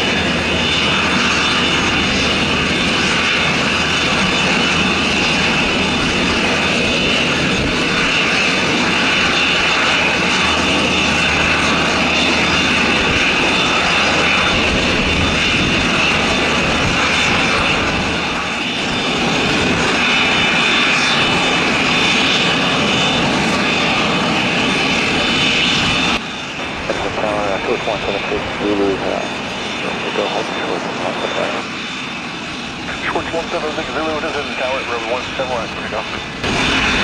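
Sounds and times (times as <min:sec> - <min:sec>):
propeller noise: 0:00.0 - 0:37.0
turbine whine: 0:00.0 - 0:37.0.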